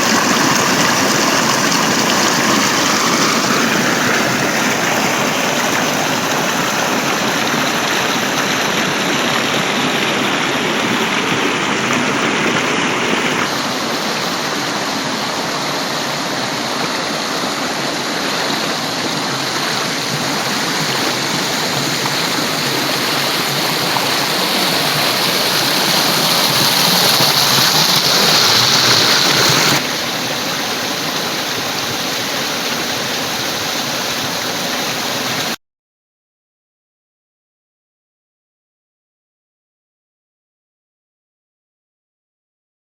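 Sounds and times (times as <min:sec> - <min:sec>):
water rushing: 0:00.0 - 0:35.6.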